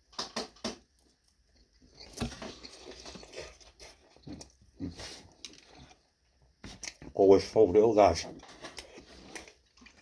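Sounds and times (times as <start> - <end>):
person chewing pizza: 0.4 - 7.2, 8.2 - 10.0.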